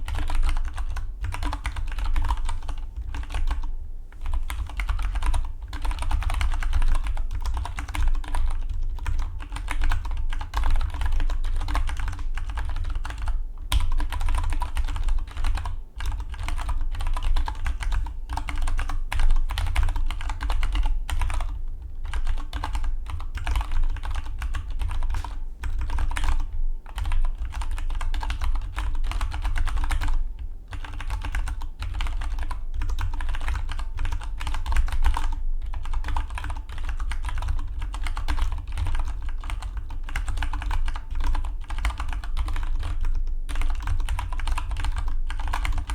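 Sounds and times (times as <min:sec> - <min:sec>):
low steady hum: 0:00.0 - 0:45.9
mechanical keyboard typing: 0:00.1 - 0:45.9.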